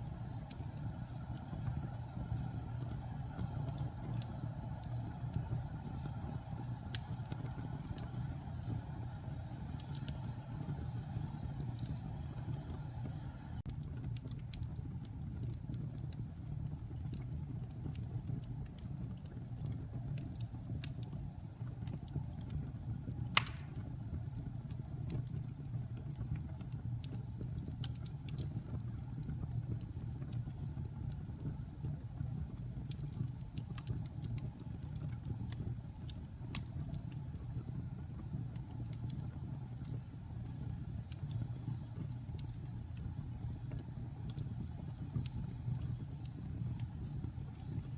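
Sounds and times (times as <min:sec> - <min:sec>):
fire crackling and popping: 0:00.0 - 0:47.9
fire flames rumbling: 0:00.0 - 0:47.9.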